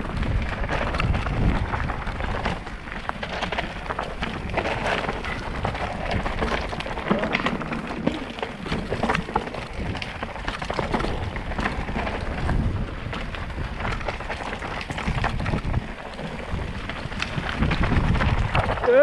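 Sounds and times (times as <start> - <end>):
bike rattling and knocking: 0.0 - 19.0
tyres crunching over stones: 0.0 - 19.0.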